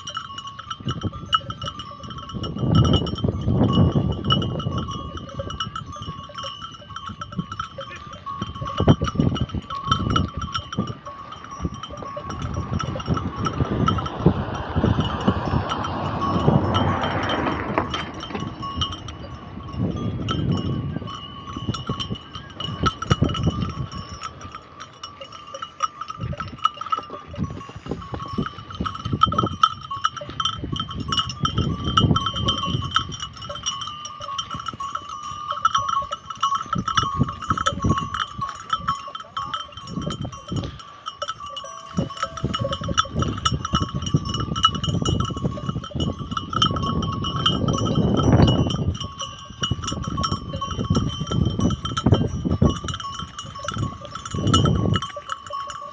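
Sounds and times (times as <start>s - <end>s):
sheep bells clinking: 0.0s - 55.9s.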